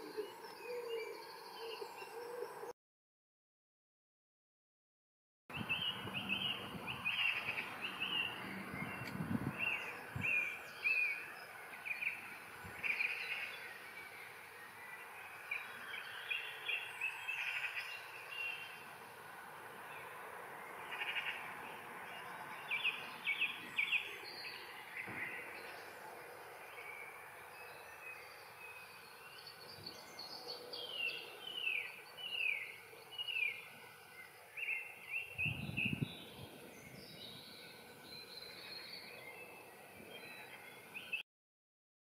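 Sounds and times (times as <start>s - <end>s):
outdoor background hiss: 5.5s - 41.2s
small birds chirping: 5.5s - 41.2s.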